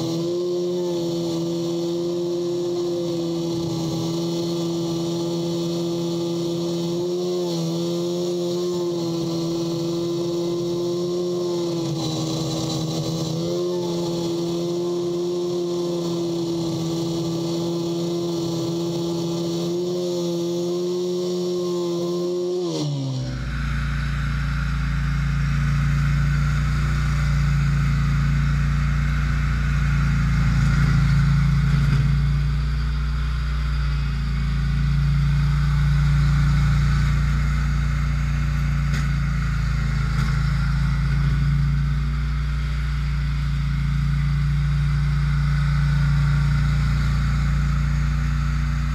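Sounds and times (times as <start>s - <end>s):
lawn tractor engine running: 0.0s - 48.9s.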